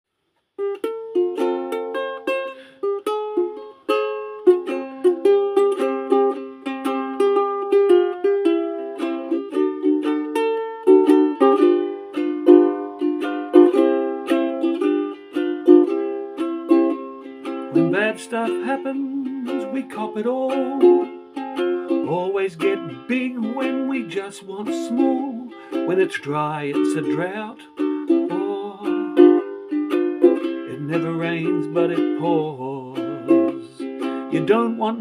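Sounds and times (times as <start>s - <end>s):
solo ukulele playing: 0.5s - 35.0s.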